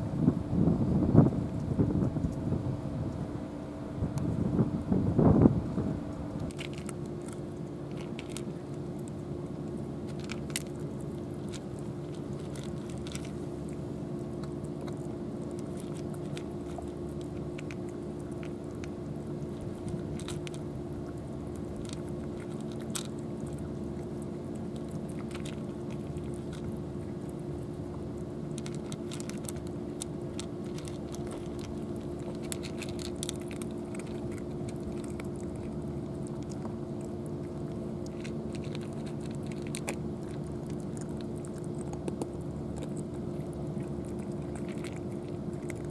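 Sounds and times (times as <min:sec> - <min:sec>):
steady low hum: 0:00.0 - 0:45.9
cats crunching dry kibble: 0:00.8 - 0:03.3, 0:05.6 - 0:45.9.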